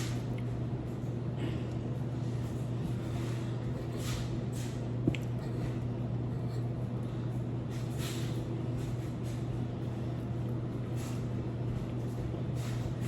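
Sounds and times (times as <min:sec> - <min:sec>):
soft eating noises: 0:00.0 - 0:13.0
steady low hum: 0:00.0 - 0:13.0.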